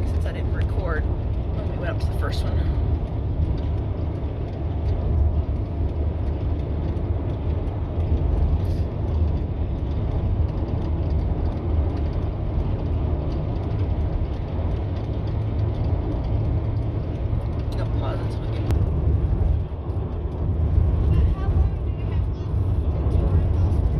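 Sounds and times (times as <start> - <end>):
engine and road noise in cabin: 0.0 - 23.9.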